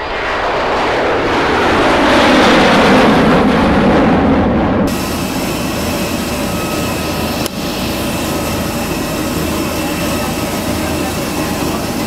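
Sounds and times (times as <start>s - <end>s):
jet turbine rushing and whining: 0.0s - 12.0s.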